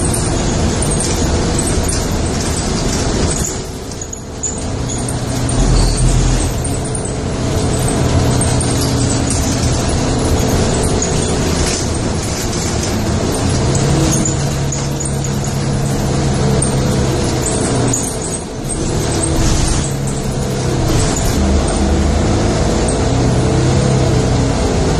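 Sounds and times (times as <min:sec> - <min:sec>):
vehicle engine hum and road noise: 0:00.0 - 0:24.9.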